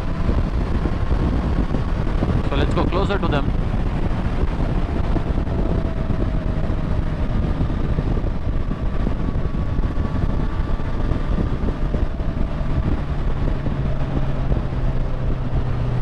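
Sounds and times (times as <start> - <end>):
deep engine note: 0.0 - 16.0
motorcycle engine running: 0.0 - 16.0
wind on microphone: 0.0 - 16.0.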